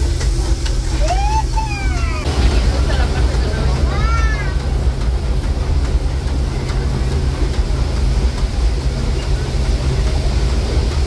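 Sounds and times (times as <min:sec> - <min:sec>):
train running noise: 0:00.0 - 0:11.0
train wheels rumbling on track: 0:00.0 - 0:11.0.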